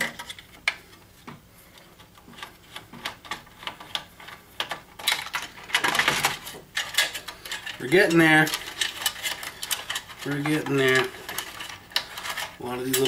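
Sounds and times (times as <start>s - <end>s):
plastic clicks and rattling: 0.0s - 13.0s.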